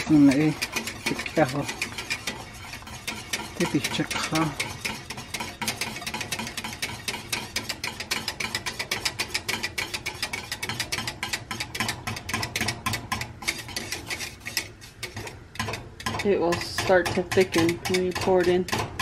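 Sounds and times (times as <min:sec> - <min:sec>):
whisk clinking in metal pot: 0:00.0 - 0:19.0.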